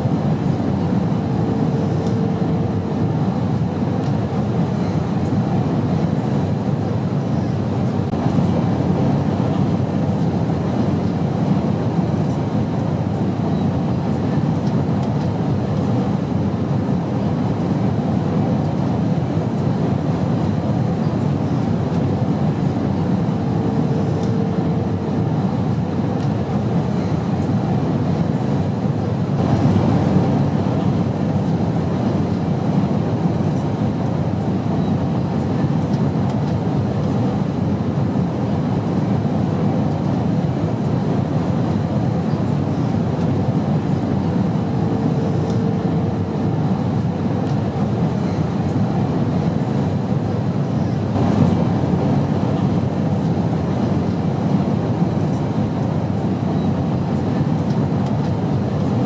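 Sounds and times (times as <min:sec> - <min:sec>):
airplane drone: 0:00.0 - 0:59.0.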